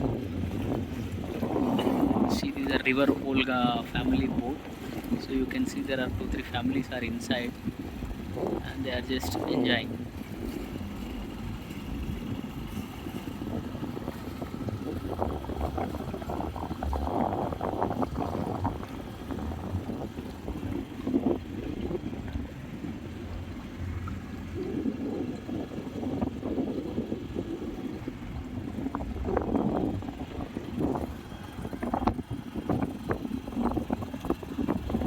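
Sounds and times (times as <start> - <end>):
motorboat engine running: 0.0 - 35.0
water rushing noise: 0.0 - 35.0.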